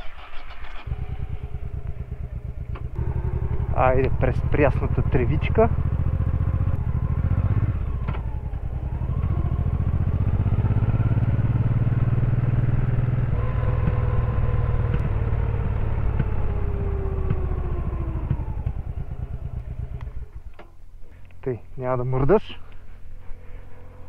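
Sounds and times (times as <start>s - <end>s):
motorcycle engine running: 0.0s - 21.4s, 22.2s - 24.0s.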